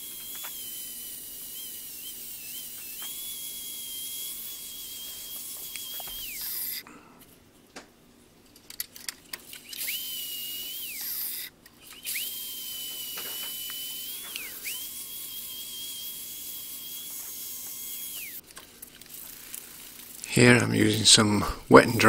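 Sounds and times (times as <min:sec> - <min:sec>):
angle grinder whine: 0:00.0 - 0:07.0, 0:09.6 - 0:18.4, 0:19.0 - 0:22.0.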